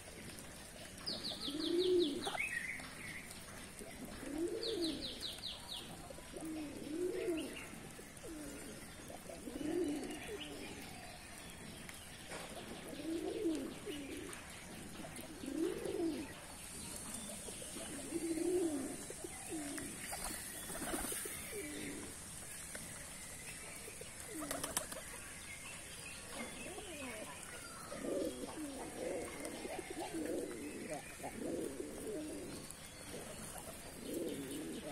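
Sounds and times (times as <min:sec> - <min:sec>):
pigeons cooing: 0:00.0 - 0:11.0, 0:12.5 - 0:23.0, 0:23.8 - 0:25.2, 0:26.2 - 0:34.9.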